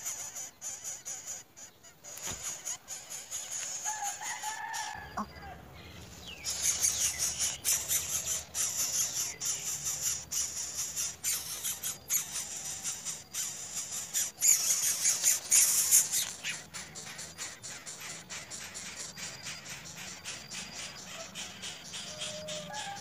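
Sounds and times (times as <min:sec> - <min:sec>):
bird call: 0:00.0 - 0:23.0.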